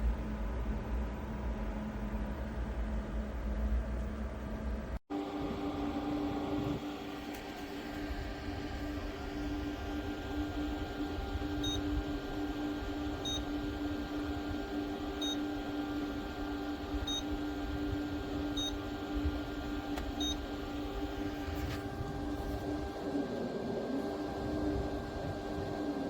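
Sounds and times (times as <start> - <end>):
air cooler fan humming: 0.0 - 26.0.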